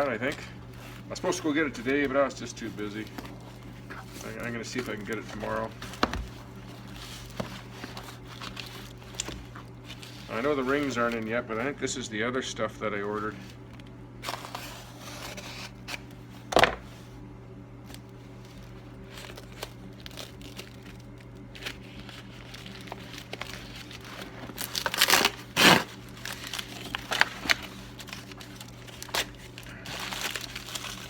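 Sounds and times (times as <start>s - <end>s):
packaging crinkling and tearing: 0.0s - 11.7s, 13.0s - 16.6s, 17.8s - 31.0s
steady low hum: 0.0s - 31.0s.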